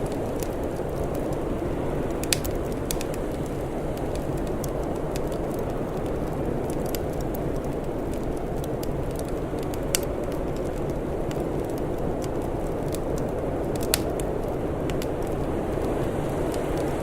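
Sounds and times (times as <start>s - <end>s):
loud fire pops: 0.0s - 17.0s
wood fire crackling: 0.0s - 17.0s.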